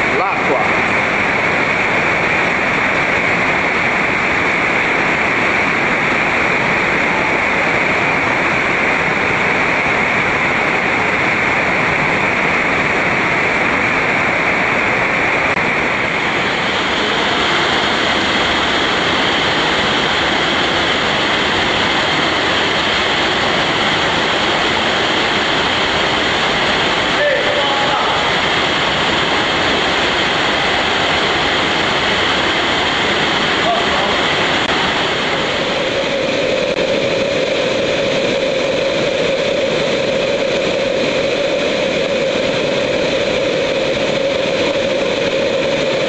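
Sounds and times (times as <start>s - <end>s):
water rushing in a cave: 0.0s - 46.0s.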